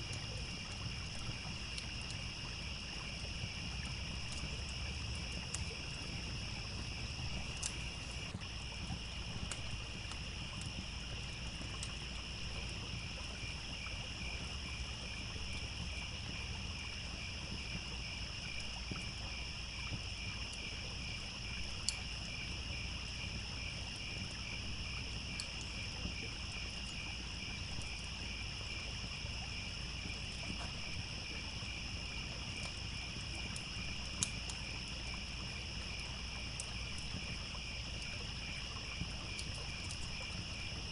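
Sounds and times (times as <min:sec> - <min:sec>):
campfire crackling pops: 0:00.0 - 0:16.4, 0:19.9 - 0:29.2, 0:30.0 - 0:40.9
crickets chirping: 0:00.0 - 0:40.9.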